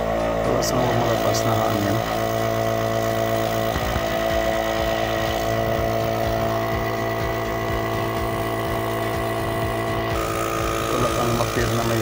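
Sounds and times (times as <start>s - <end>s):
compressor humming: 0.0s - 12.0s.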